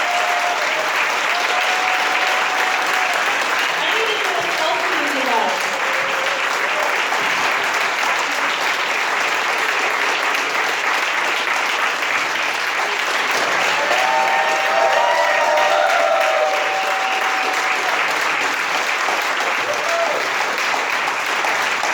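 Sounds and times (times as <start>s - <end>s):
crowd applauding: 0.0s - 21.9s
people cheering: 0.0s - 21.9s.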